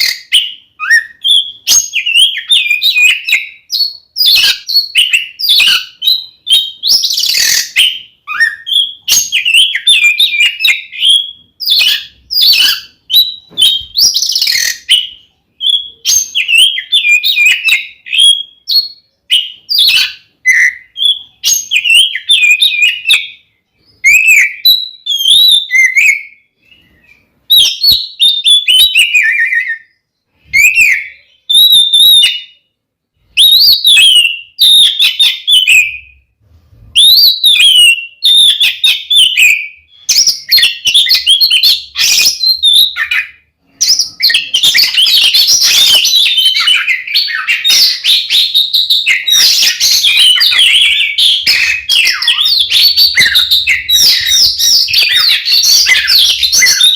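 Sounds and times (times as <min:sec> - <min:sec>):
songbird whistling and scratchy notes: 0:00.0 - 0:56.9.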